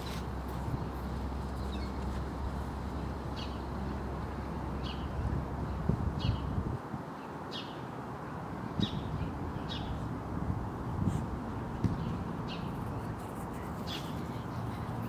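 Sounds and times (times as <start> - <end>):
low outdoor background hum: 0.0 - 15.0.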